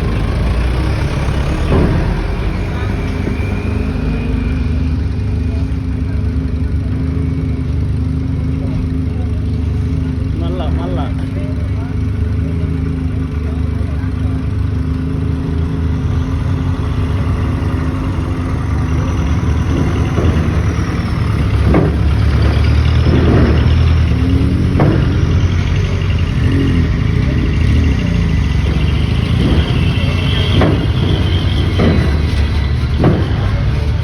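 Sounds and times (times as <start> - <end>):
sharp knocks and clatters: 0.0 - 7.2, 7.8 - 34.0
truck engine running: 0.0 - 34.0.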